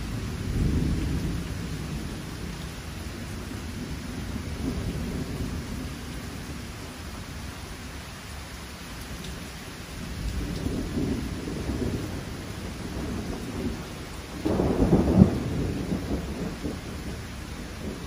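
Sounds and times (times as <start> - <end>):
thunder rumbling: 0.0 - 7.1, 10.0 - 18.0
steady rain: 0.0 - 18.0.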